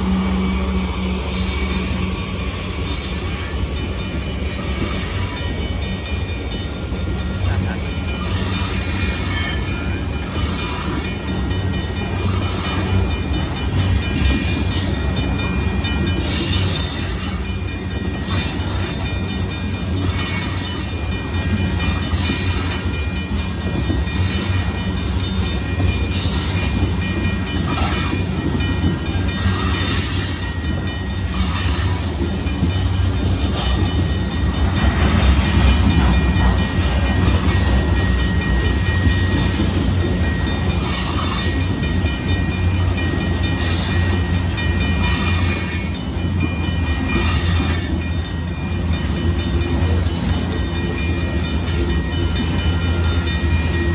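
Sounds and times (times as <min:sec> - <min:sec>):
freight train rumbling past: 0:00.0 - 0:53.9
wheels clanking on rails: 0:00.0 - 0:53.9.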